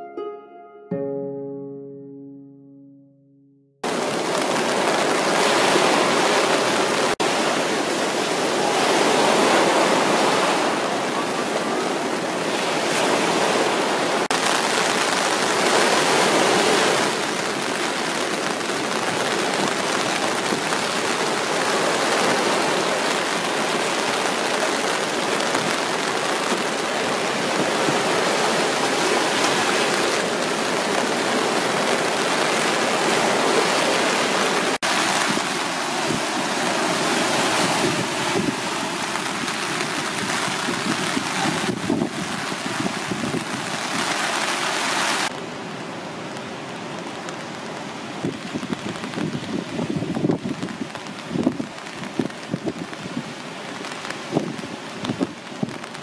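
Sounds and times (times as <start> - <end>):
surf breaking on a beach: 3.8 - 56.0.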